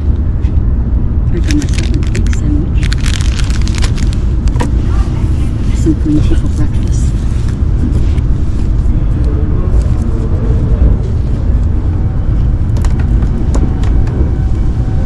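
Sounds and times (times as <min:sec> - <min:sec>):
train rumble inside cabin: 0:00.0 - 0:15.0.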